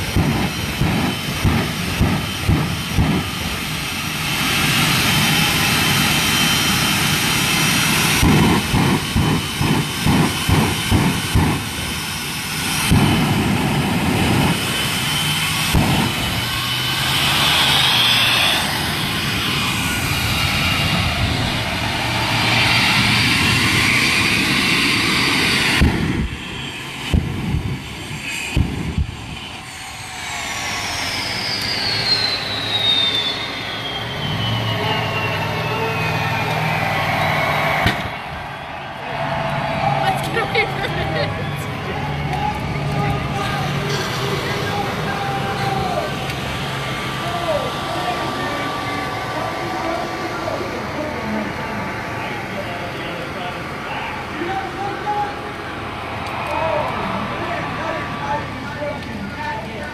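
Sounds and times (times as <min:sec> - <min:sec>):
falling whine: 0:00.0 - 0:59.9
jet engine roaring: 0:00.0 - 0:59.9.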